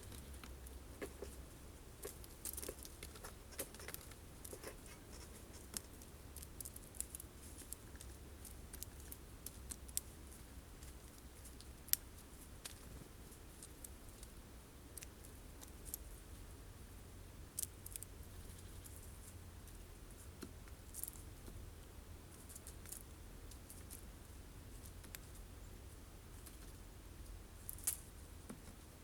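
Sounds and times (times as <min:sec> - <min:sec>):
birds pecking seeds: 0:00.0 - 0:29.0
low steady rumble: 0:00.0 - 0:29.0.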